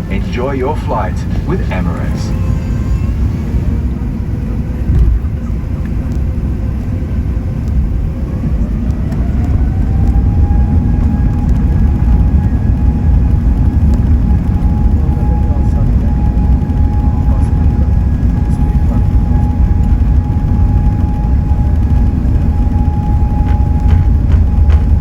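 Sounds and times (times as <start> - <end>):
aircraft cabin rumble: 0.0 - 25.0
jet engine whine: 0.0 - 25.0.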